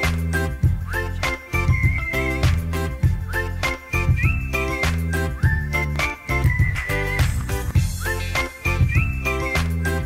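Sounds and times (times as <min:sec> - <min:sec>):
background music with bass beat: 0:00.0 - 0:10.0.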